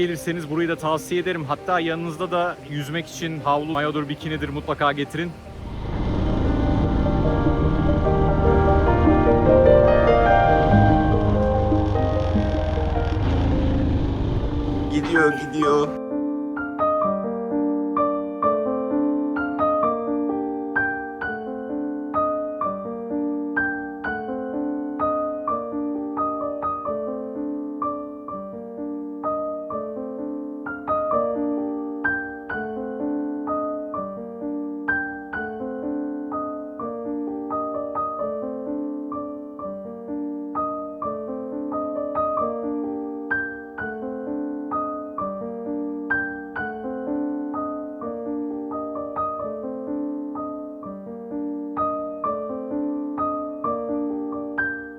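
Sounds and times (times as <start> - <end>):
gentle solo piano piece: 0.0 - 5.8, 6.6 - 54.9.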